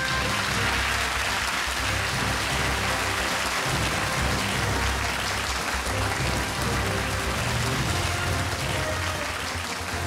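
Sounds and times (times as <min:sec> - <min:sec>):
studio audience applauding: 0:00.0 - 0:10.0.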